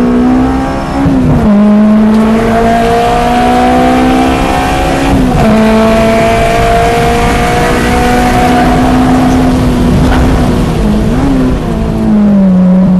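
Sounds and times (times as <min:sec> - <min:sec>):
car engine running hard: 0:00.0 - 0:12.9.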